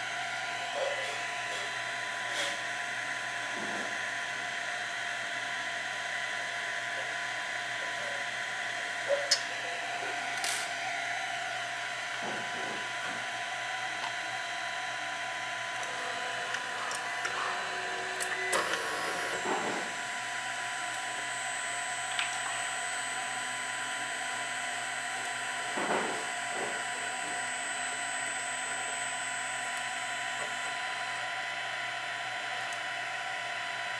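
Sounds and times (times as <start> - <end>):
three-d printer whirring: 0.0 - 33.9.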